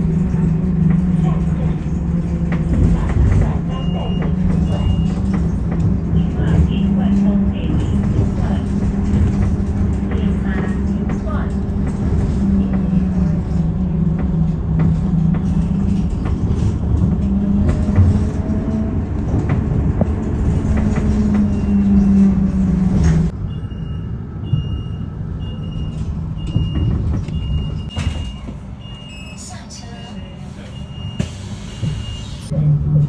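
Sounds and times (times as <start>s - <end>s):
bus engine drone: 0.0s - 33.0s.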